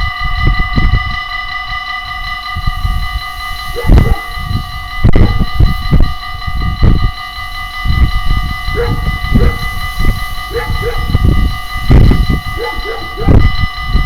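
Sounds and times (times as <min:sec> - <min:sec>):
level crossing bell ringing: 0:00.0 - 0:14.0.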